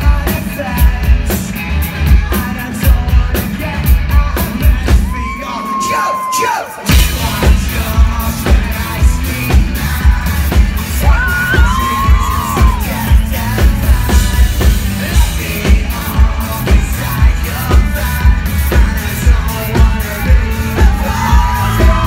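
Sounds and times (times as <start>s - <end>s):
steady drum beat: 0.0s - 5.9s, 6.7s - 22.0s
live rock band playing: 0.0s - 22.0s
crowd yelling and cheering: 1.6s - 22.0s.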